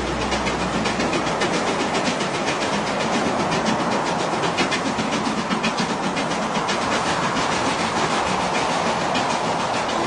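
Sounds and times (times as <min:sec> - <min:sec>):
steam train clattering: 0:00.0 - 0:10.0.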